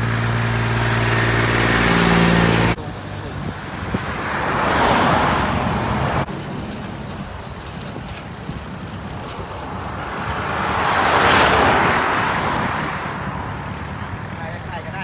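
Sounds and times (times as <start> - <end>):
vehicle passing: 0.0 - 7.6, 8.2 - 15.0
tractor diesel engine droning: 0.0 - 15.0
van passing close: 0.0 - 15.0.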